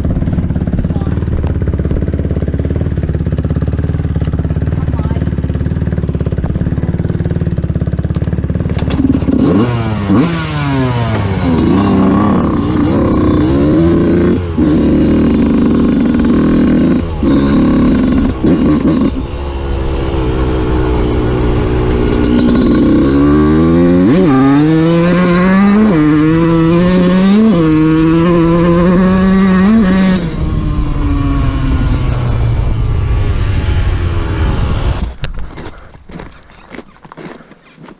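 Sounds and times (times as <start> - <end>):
dirt bike engine revving: 0.1 - 36.3.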